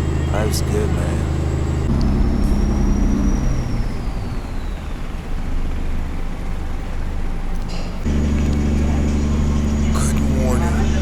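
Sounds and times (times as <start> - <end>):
boat engine low drone: 0.0 - 11.0.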